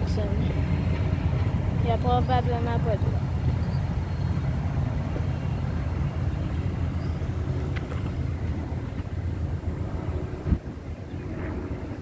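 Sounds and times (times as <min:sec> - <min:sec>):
train rolling past: 0:00.0 - 0:12.0.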